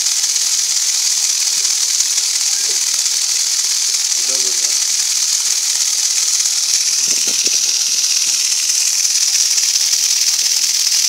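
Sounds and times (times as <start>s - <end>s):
small motor spinning hiss: 0.0s - 11.0s.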